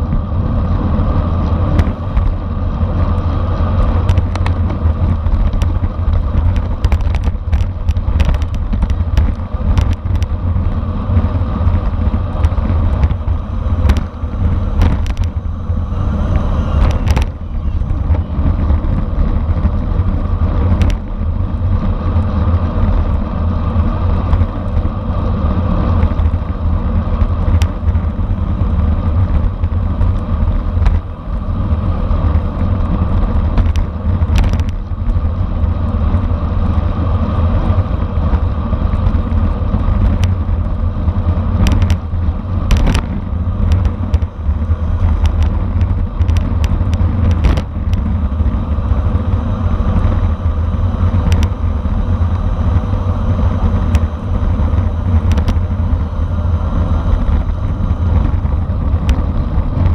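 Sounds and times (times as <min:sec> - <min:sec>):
bicycle tyre noise: 0:00.0 - 0:59.9
wind rushing over microphone: 0:00.0 - 0:59.9.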